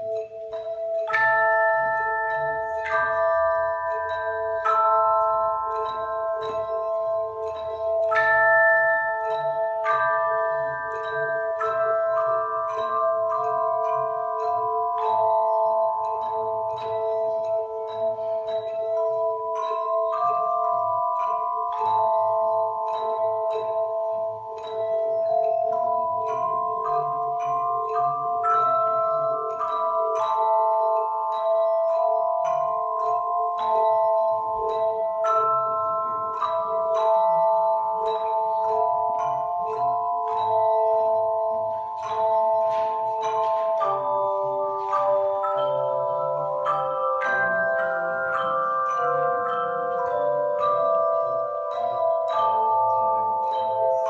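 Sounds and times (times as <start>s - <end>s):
bell choir playing: 0.0s - 54.0s.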